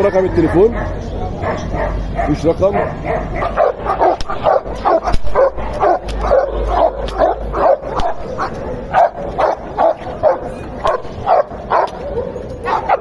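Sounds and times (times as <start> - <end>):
dog barking rapidly: 0.0 - 13.0.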